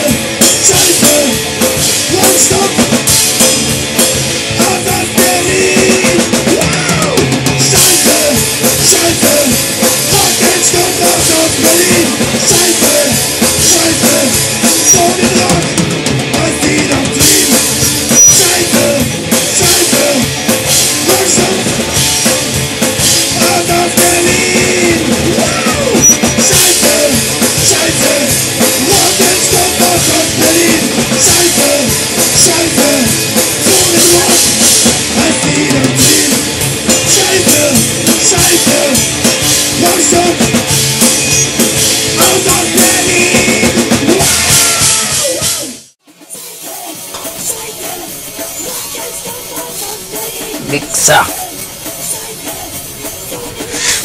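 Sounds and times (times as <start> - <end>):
punk band playing: 0.0 - 54.0.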